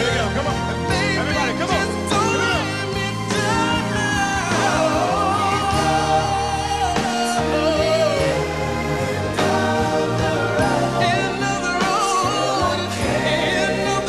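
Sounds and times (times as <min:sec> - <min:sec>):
backing band: 0:00.0 - 0:14.0
male vocal group singing ballad: 0:00.0 - 0:14.0.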